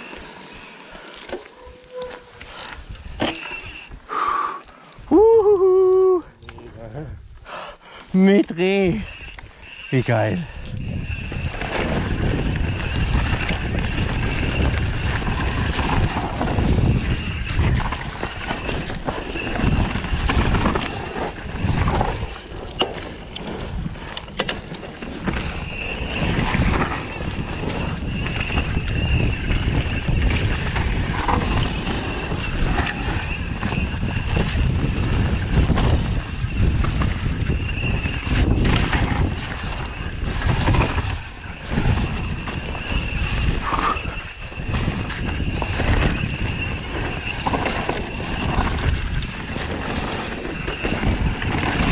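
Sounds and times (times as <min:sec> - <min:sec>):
bike tyres rolling on dirt: 0:00.0 - 0:06.1, 0:06.7 - 0:51.9
wind buffeting microphone: 0:08.6 - 0:51.9.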